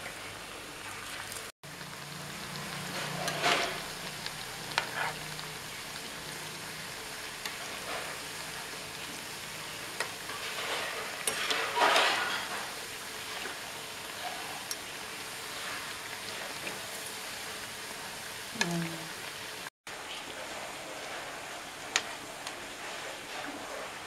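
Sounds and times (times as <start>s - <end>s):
fritters sizzling in hot oil: 0.0s - 23.8s.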